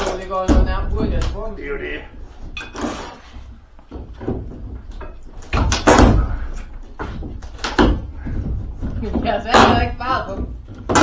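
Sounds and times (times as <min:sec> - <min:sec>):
wooden boards banging and thudding: 0:00.0 - 0:11.0.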